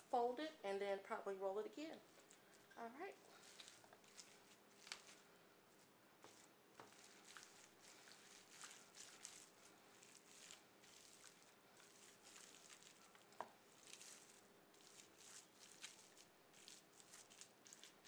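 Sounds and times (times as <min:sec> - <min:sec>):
faint steady hum: 0:00.0 - 0:18.0
plastic wrap crinkling: 0:02.2 - 0:18.0.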